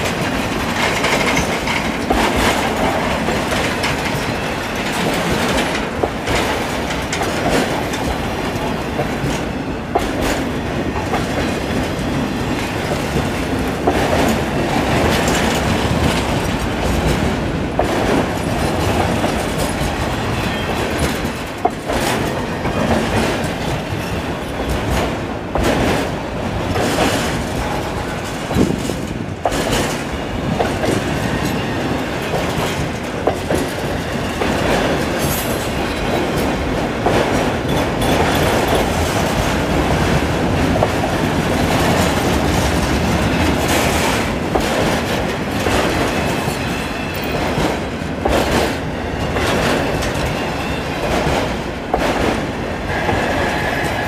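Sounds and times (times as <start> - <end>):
train wheels rumbling on rails: 0.0 - 54.0
wheels clacking over rail joints: 0.0 - 54.0.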